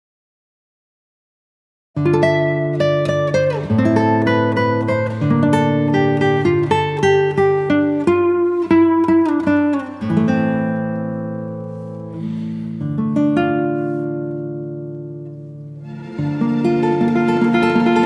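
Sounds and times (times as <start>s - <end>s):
acoustic guitar music: 2.0s - 18.0s.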